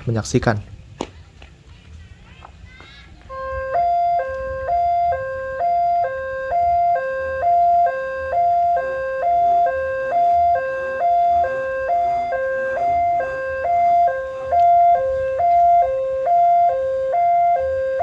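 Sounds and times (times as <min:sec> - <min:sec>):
two-tone level crossing siren: 0:03.3 - 0:18.0.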